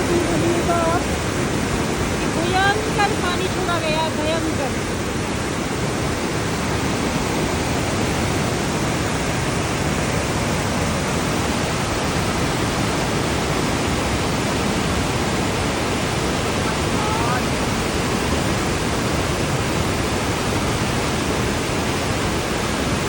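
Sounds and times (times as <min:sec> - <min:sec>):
floodwater rushing through gates: 0:00.0 - 0:23.0.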